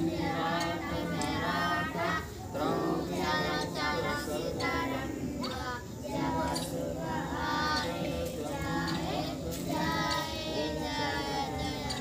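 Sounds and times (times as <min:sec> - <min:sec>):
children and women singing: 0:00.0 - 0:12.0.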